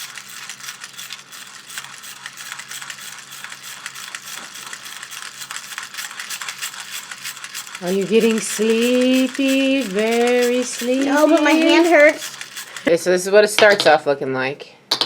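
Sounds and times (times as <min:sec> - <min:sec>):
plastic toy ratcheting clicks: 0:00.0 - 0:13.0.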